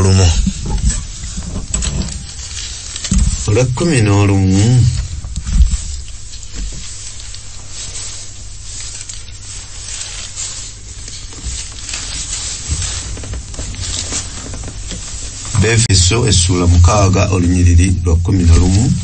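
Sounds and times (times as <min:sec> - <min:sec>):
faint rustles: 0:00.0 - 0:19.0
low hum and hiss: 0:00.0 - 0:19.0.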